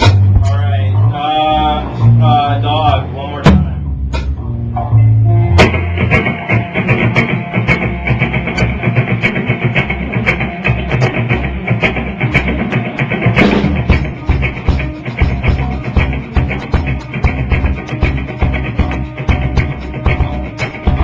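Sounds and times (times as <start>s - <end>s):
steady drum beat: 0.0s - 4.4s, 5.5s - 21.0s
bass notes: 0.0s - 21.0s
electric guitar: 0.0s - 21.0s.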